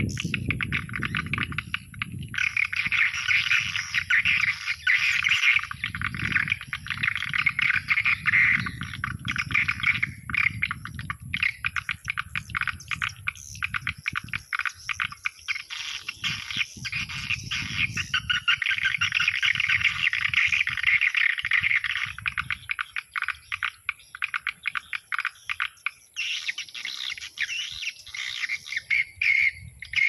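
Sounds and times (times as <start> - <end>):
recorded bird twittering: 0.0 - 30.0.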